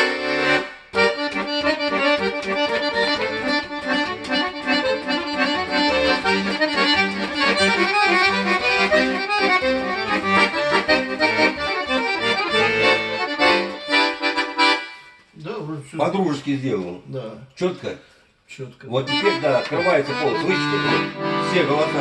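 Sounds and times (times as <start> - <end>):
button accordion playing: 0.0 - 15.2, 19.0 - 22.0.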